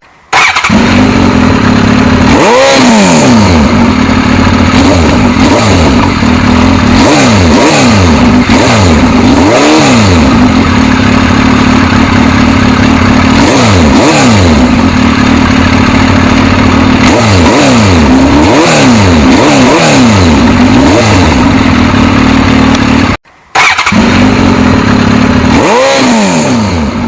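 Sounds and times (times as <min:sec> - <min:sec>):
motorcycle engine idling: 0:00.0 - 0:27.0
motorcycle engine revving: 0:00.0 - 0:27.0.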